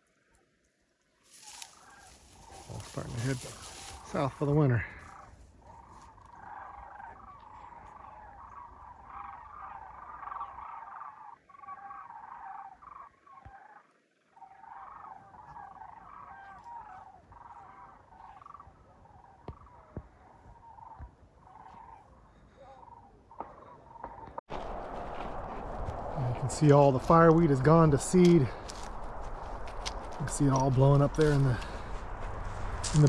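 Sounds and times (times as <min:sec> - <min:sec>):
flock of birds calling: 0:01.2 - 0:24.4, 0:26.2 - 0:33.0.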